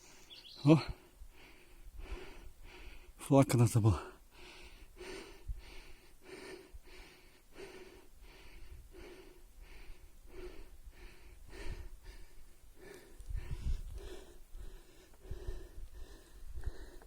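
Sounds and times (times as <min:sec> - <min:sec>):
man panting heavily: 0:00.8 - 0:03.2, 0:04.0 - 0:17.0.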